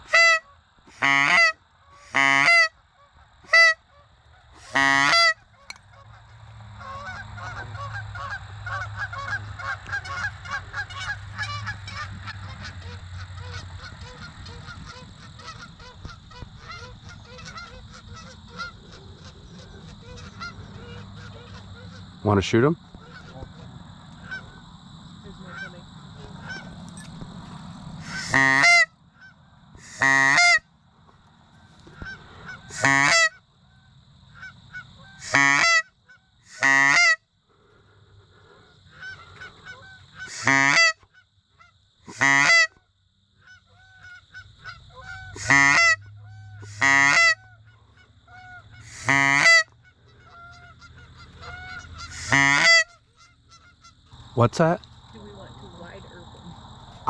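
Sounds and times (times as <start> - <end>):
goose honking: 0.0 - 2.7, 3.5 - 24.7, 25.3 - 30.7, 31.6 - 42.8, 43.4 - 54.8.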